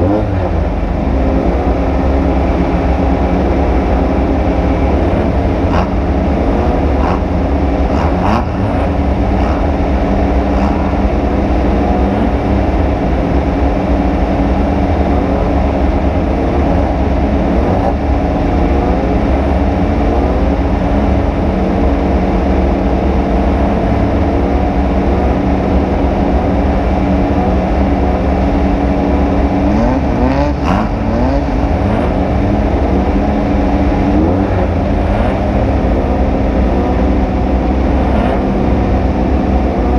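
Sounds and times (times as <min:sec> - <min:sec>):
heavy rumbling noise: 0:00.0 - 0:39.9
race vehicle engine running hard: 0:00.0 - 0:39.9.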